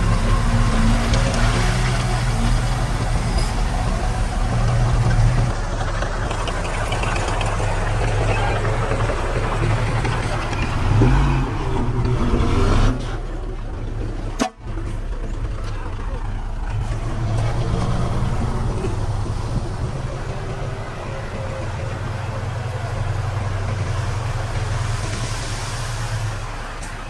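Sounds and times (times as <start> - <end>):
heavy machinery engine running: 0.0 - 27.0.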